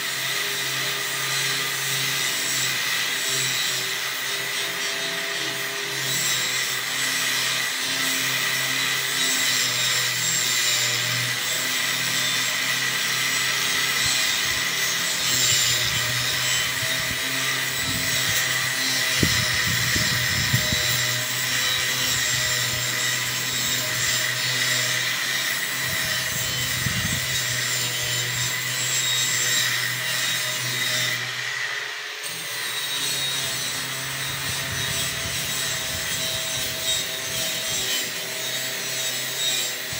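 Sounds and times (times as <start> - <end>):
angle grinder motor whine: 0.0 - 39.9
grinder scraping on metal: 0.0 - 39.9.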